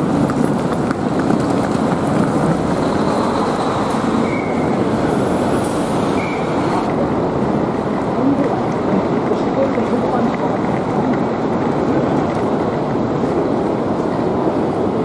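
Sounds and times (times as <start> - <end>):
city background rumble: 0.0 - 15.0.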